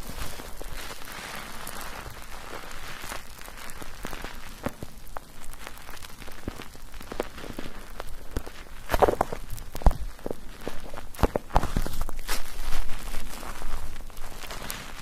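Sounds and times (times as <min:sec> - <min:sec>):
foam crackling pops: 0:00.0 - 0:15.0.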